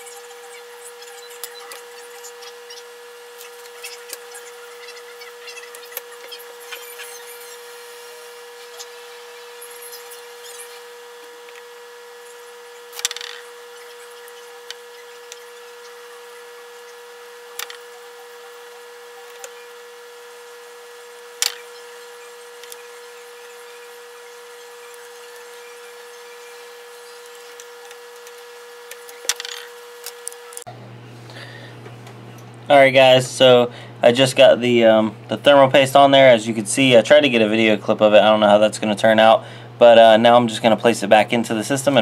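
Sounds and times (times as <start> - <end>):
high electrical whine: 0.0 - 42.0.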